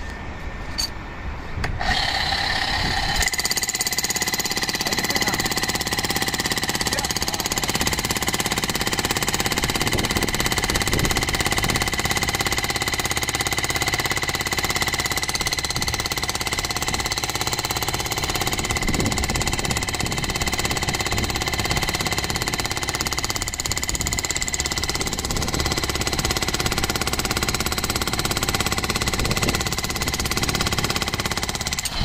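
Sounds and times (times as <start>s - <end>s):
demolition hammer chiselling concrete: 1.8s - 32.0s.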